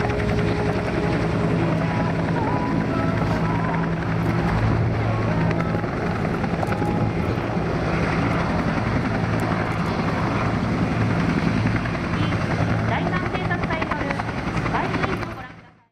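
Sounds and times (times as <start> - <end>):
helicopter rotor and turbine drone: 0.0 - 15.9.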